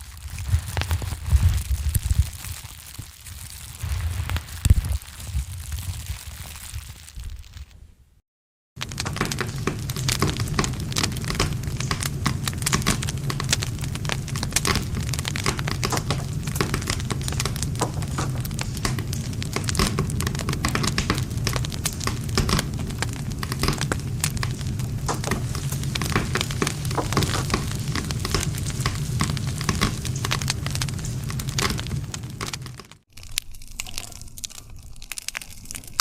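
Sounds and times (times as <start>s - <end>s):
campfire crackling and popping: 0.0s - 7.7s, 8.8s - 36.0s.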